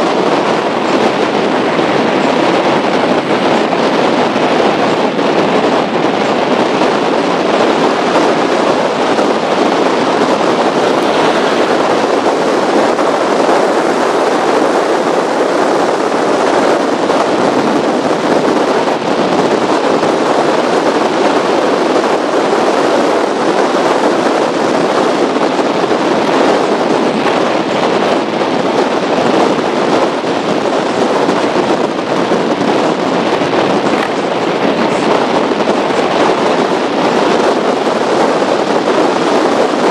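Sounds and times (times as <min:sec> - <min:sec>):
boat engine noise: 0:00.0 - 0:39.9
wind buffeting microphone: 0:00.0 - 0:39.9.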